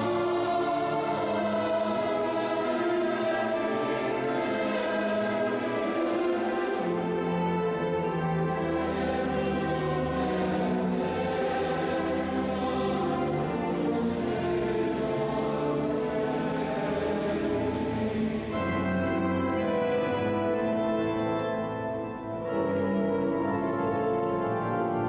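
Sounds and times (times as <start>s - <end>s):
mixed choir singing: 0.0s - 23.2s
string orchestra: 0.0s - 25.0s.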